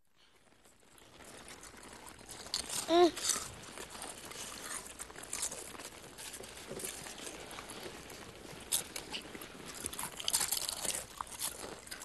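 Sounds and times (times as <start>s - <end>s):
small crunches and clicks: 0.2s - 12.0s.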